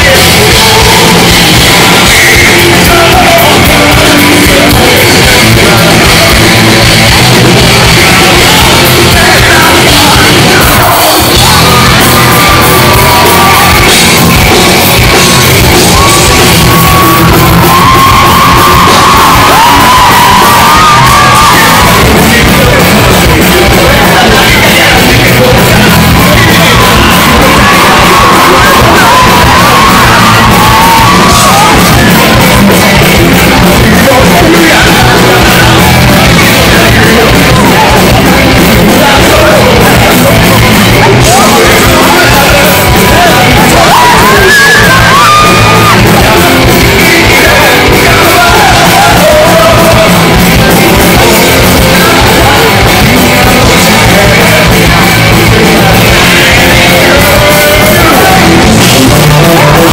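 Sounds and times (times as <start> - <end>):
crowd singing and yelling: 0.0 - 59.9
rock band playing live: 0.0 - 59.9.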